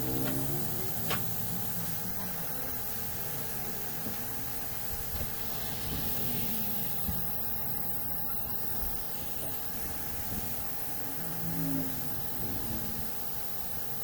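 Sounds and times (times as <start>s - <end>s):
faint steady hum: 0.0s - 14.0s
hot air blower hissing: 0.0s - 14.0s.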